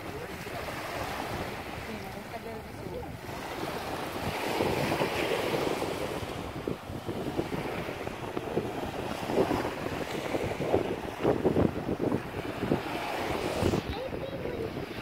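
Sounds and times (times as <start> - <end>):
small waves on shore: 0.0 - 15.0
wind buffeting microphone: 0.0 - 15.0.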